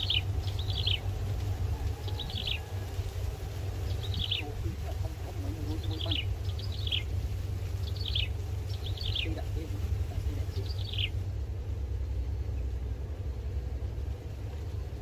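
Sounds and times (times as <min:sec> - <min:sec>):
bird calling: 0:00.0 - 0:15.0
steady low rumble: 0:00.0 - 0:15.0.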